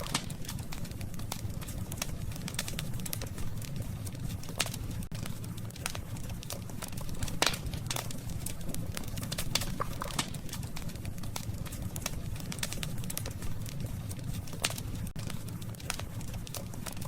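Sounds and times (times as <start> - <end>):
campfire crackling: 0.0 - 17.0
low rumble of fire: 0.0 - 17.0.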